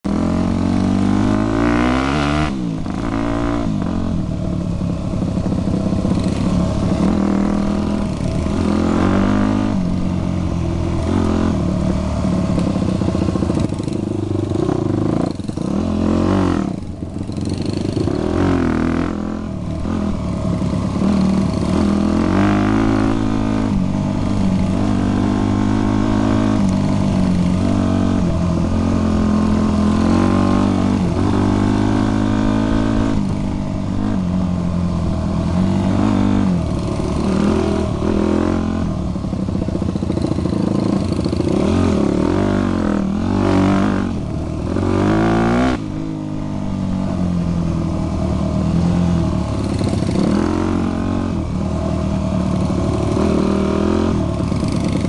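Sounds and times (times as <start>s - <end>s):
dirt bike engine revving: 0.1s - 55.0s.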